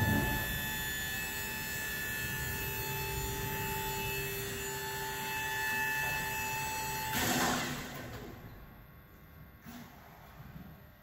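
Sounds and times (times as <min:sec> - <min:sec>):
steady electric hum: 0:00.0 - 0:09.6.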